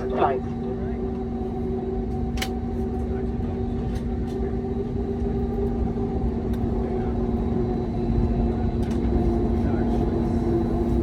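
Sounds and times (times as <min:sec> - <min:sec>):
airplane cabin engine hum: 0:00.0 - 0:11.0.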